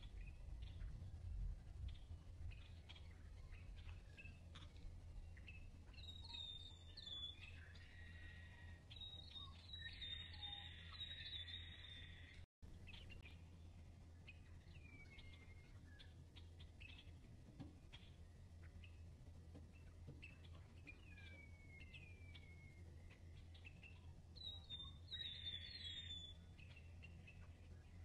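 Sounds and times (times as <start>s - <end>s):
birds chirping and trilling: 0.0s - 28.0s
low hum: 0.0s - 28.0s.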